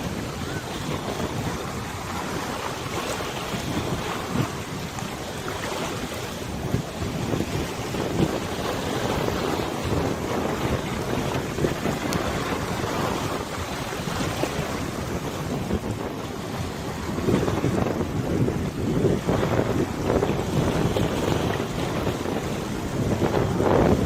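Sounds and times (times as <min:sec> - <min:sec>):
waves splashing and lapping: 0:00.0 - 0:24.0
wind gusting across microphone: 0:00.0 - 0:24.0.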